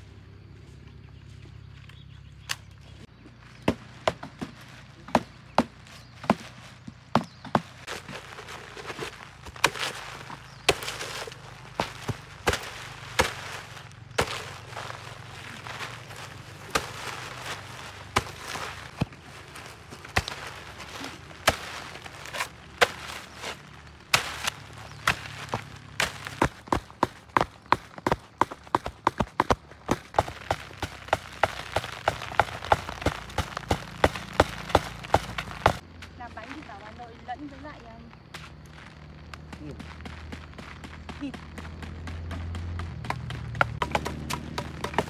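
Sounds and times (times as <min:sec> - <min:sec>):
blade chopping branches: 0:02.4 - 0:38.7, 0:39.3 - 0:45.0
dry leaves rustling: 0:03.1 - 0:45.0.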